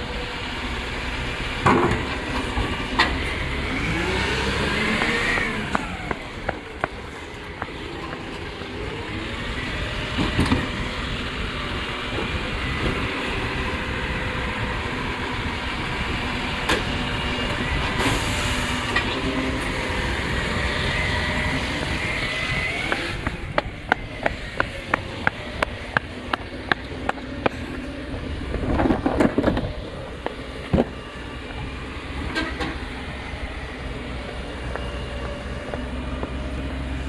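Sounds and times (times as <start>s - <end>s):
diesel truck engine running: 0.0s - 37.0s.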